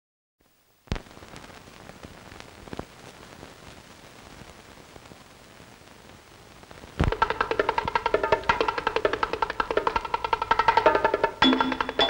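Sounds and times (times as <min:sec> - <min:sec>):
crackles and pops: 0:00.4 - 0:12.0
film soundtrack hiss: 0:00.4 - 0:12.0.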